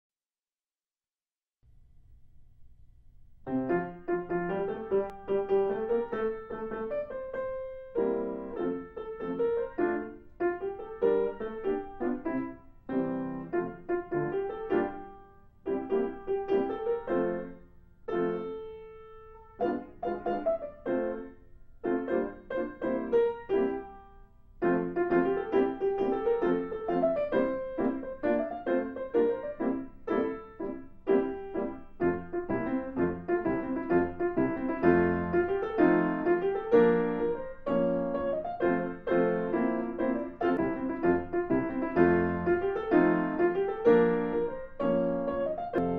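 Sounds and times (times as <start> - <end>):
piano melody: 3.4 - 45.9.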